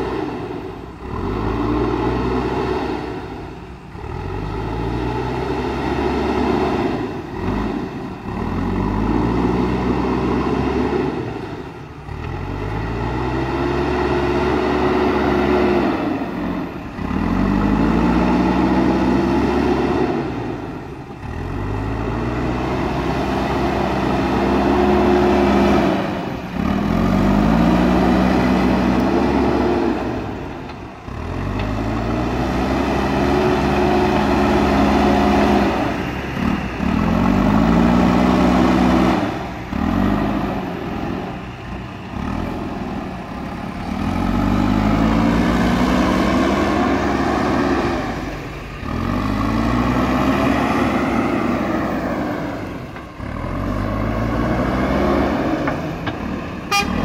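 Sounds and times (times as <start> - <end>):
diesel engine working hard: 0.0 - 57.0.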